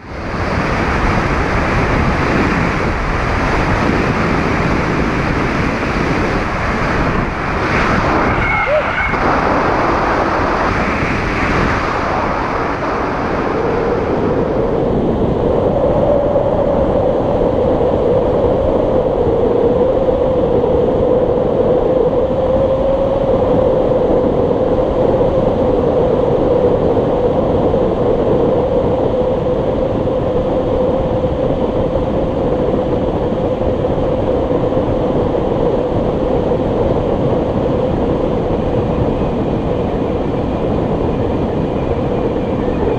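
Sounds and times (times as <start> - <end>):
paramotor engine drone: 0.0 - 42.9
wind rush: 0.0 - 42.9.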